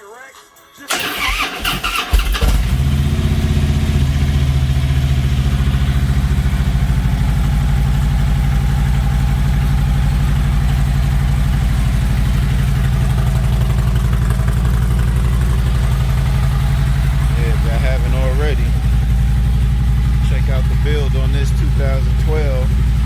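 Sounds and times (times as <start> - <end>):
motorcycle engine idling: 0.9 - 23.0.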